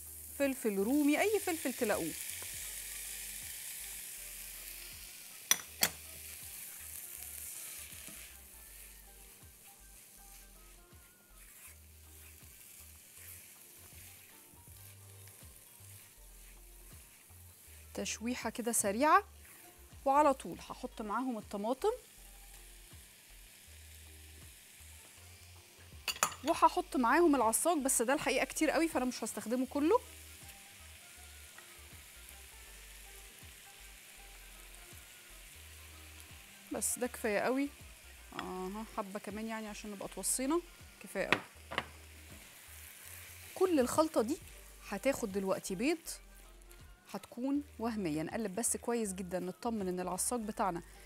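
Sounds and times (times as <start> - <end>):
vegetables sizzling in a frying pan: 0.0 - 51.0.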